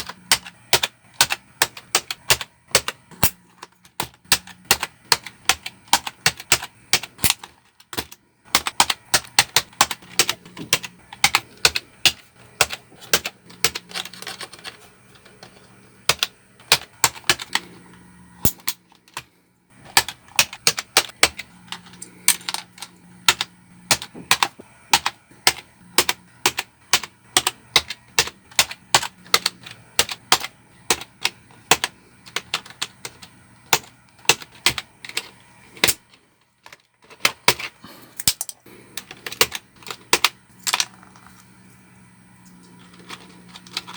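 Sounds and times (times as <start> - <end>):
keyboard keys clacking: 0.0 - 43.9.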